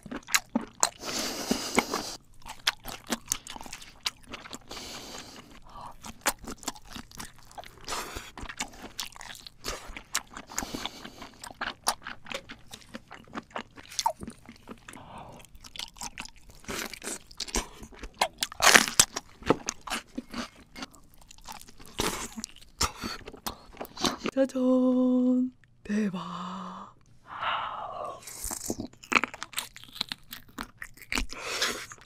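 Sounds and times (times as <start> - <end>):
chewing and crunching prawns: 0.0 - 24.3, 28.2 - 32.0.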